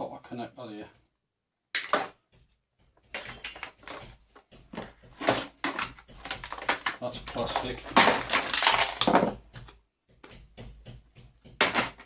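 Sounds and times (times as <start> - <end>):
plastic and metal knocks and rattles: 1.9 - 12.0.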